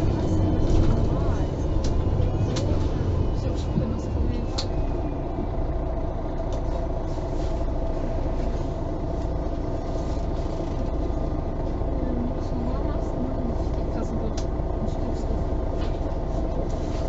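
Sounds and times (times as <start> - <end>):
bus engine rumble with whine: 0.0 - 17.0.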